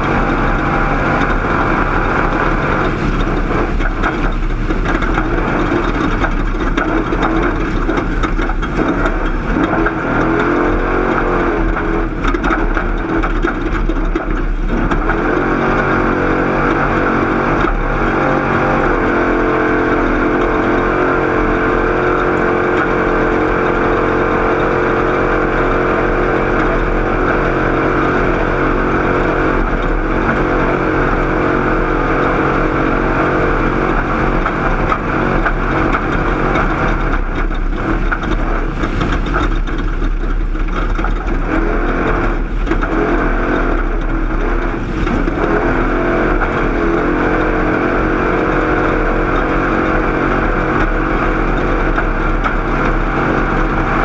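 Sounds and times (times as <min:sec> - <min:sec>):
race vehicle engine running hard: 0:00.0 - 0:54.0.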